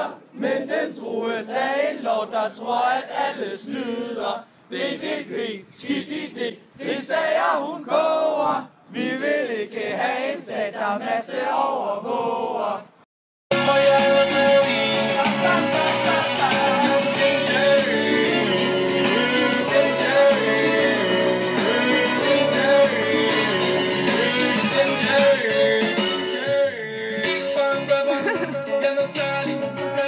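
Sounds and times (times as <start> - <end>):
group singing unaccompanied: 0.0 - 30.0.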